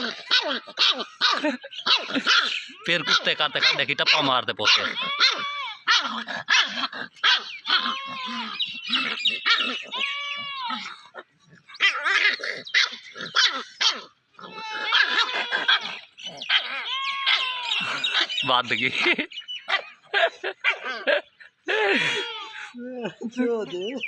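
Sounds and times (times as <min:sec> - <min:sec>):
puppy barking and yelping: 0:00.0 - 0:21.4.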